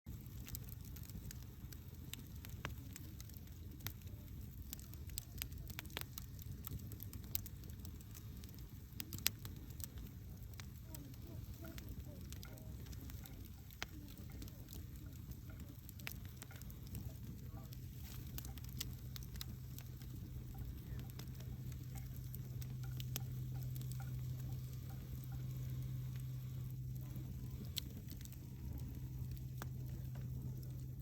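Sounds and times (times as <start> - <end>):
campfire crackling and popping: 0.1 - 31.0
low rumble of fire: 0.1 - 31.0
low steady hum: 0.1 - 31.0.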